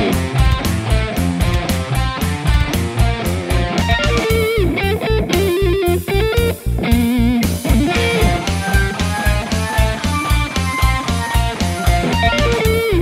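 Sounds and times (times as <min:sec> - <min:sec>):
rock music with electric guitar: 0:00.0 - 0:13.0
fast drum beat: 0:02.4 - 0:13.0
lead guitar wavering notes: 0:02.5 - 0:13.0.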